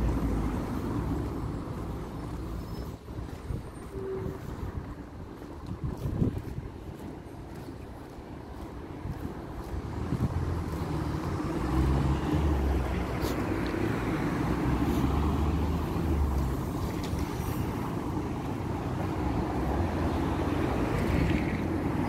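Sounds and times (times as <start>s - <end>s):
steady road noise: 0.0s - 22.0s
vehicles passing: 0.0s - 22.0s.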